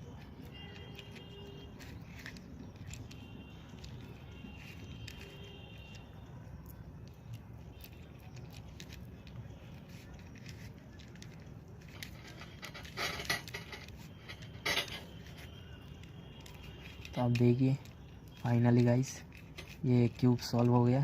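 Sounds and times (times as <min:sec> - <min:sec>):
puzzle cube rattling turns: 0:00.0 - 0:21.0
plastic puzzle cube clicking: 0:01.8 - 0:05.3, 0:06.4 - 0:21.0.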